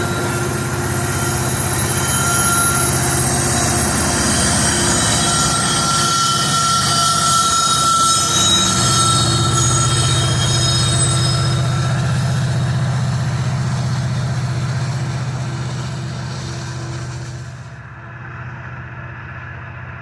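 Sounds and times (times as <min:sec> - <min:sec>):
train wheels squealing: 0:00.0 - 0:19.3
train rumble: 0:00.0 - 0:20.0.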